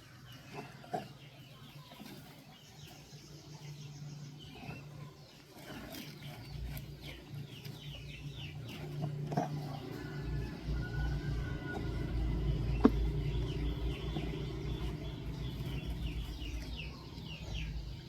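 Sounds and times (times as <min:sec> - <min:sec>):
birds chirping: 0:00.0 - 0:18.0
steady low hum: 0:03.0 - 0:18.0.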